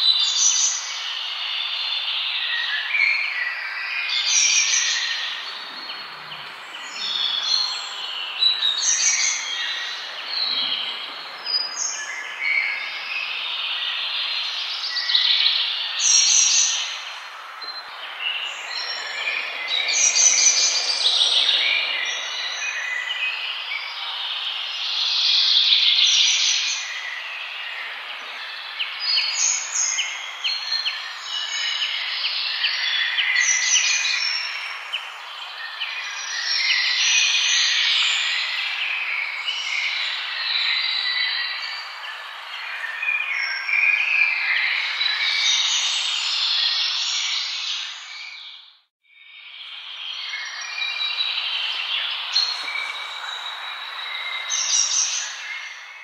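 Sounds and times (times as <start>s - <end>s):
outdoor background noise: 0.0s - 56.0s
small birds chirping and singing: 0.0s - 56.0s.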